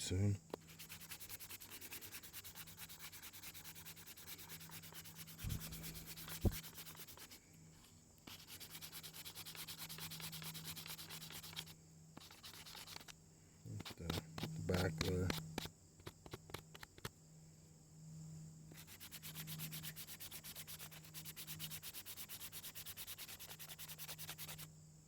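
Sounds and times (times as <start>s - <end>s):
sandpaper rubbing on wood: 0.6s - 7.4s, 8.2s - 13.1s, 13.7s - 16.9s, 18.7s - 24.7s.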